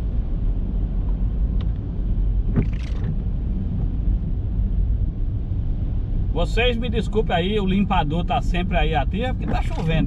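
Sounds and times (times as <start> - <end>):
windscreen wiper swish: 0.0 - 6.3, 7.0 - 10.0
low rumble inside car: 0.0 - 10.0.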